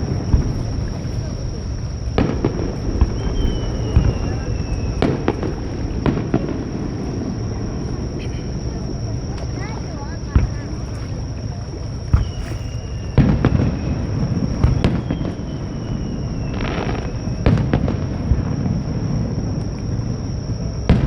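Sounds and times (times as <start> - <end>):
continuous low rumble: 0.0 - 21.0
firework crackle: 0.0 - 21.0
firework shells booming: 0.0 - 21.0
firework whistles: 0.0 - 21.0.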